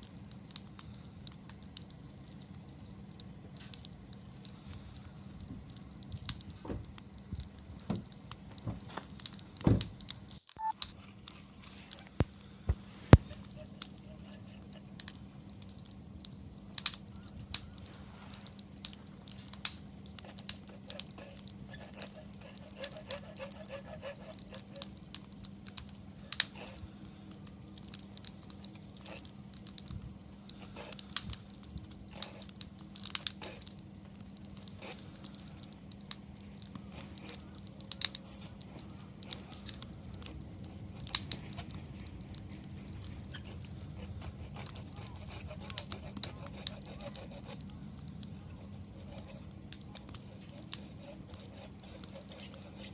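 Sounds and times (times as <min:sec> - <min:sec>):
faint low hum: 0:00.0 - 0:52.9
wood fire crackling: 0:00.0 - 0:52.9.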